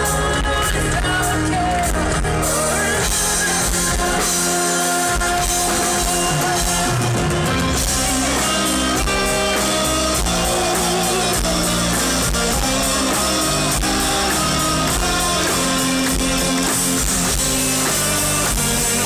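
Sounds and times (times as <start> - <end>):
drum kit: 0.0 - 19.0
electric guitar: 0.0 - 19.0
symphonic metal band playing live: 0.0 - 19.0.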